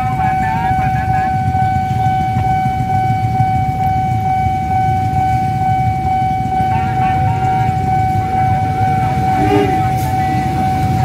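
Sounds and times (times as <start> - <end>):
level crossing alarm tone: 0.0 - 11.0.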